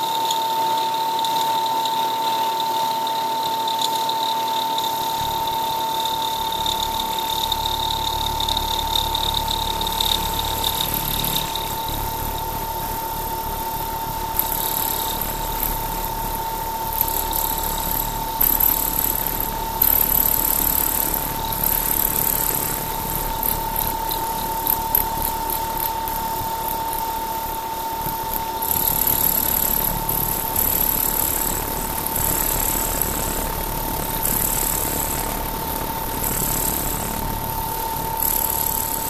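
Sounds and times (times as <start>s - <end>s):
milling spindle whine: 0.0s - 39.0s.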